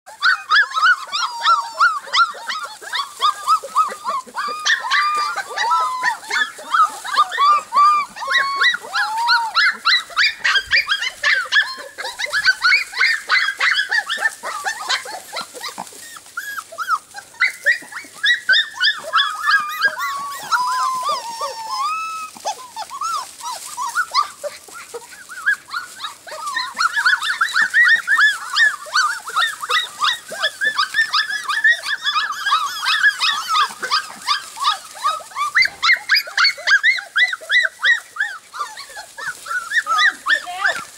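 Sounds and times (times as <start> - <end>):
puppies barking: 0.1 - 40.9.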